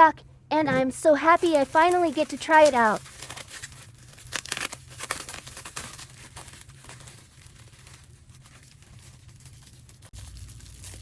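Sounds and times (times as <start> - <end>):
packaging crinkling and rustling: 1.3 - 11.0.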